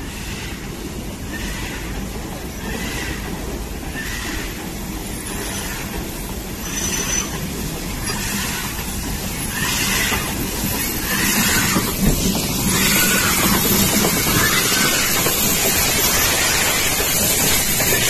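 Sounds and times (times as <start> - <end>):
carriages rolling on rails: 0.0 - 18.0
steam locomotive venting steam: 0.0 - 18.0.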